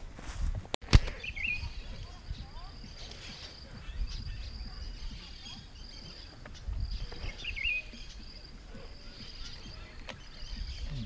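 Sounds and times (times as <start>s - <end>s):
bird chirp: 1.1s - 11.0s.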